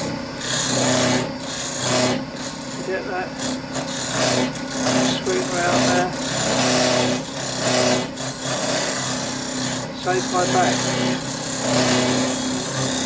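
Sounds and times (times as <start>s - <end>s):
lathe tool rasping scrape: 0.0s - 13.0s.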